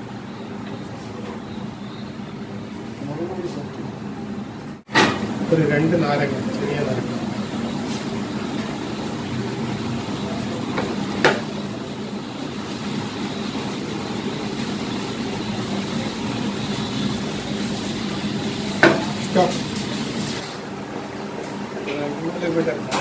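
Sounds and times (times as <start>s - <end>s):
machinery humming: 0.0s - 23.0s.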